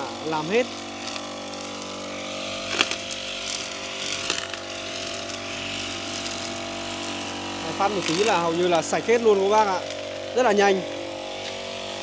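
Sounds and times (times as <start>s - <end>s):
brush cutter running: 0.0s - 12.0s.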